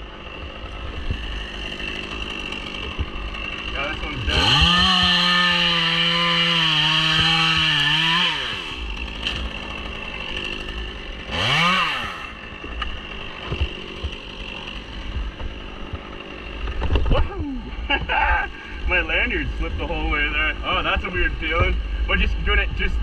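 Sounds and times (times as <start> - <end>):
chainsaw engine running: 0.0 - 23.0.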